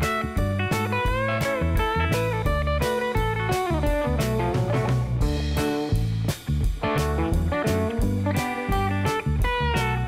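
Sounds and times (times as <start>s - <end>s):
guitar: 0.0s - 10.0s
steady drum beat: 0.0s - 10.0s.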